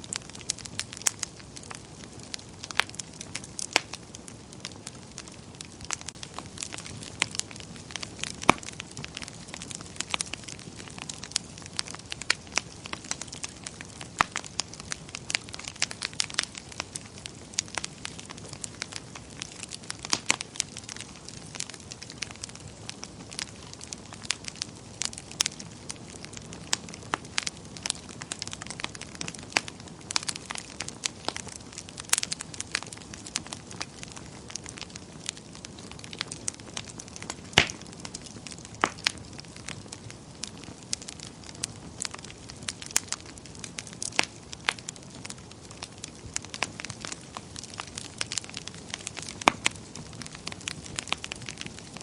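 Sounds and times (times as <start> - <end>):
low rush of flames: 0.0 - 52.0
wood fire crackling and popping: 0.0 - 52.0.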